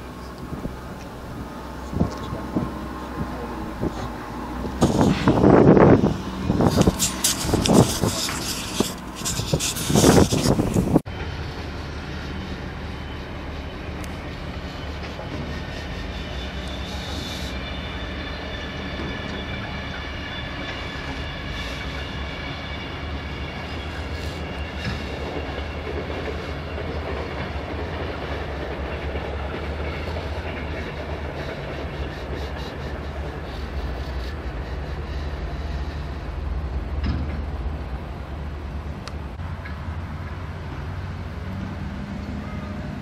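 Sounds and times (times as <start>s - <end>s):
excavator diesel engine rumbling: 0.0s - 43.0s.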